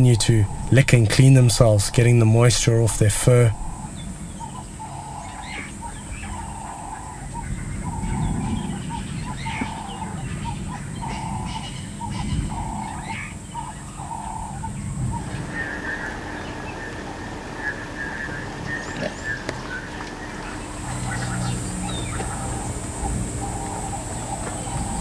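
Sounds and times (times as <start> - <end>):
bird chirps: 0.0 - 25.0
higher buzzing call: 0.0 - 25.0
insect whine: 0.0 - 25.0.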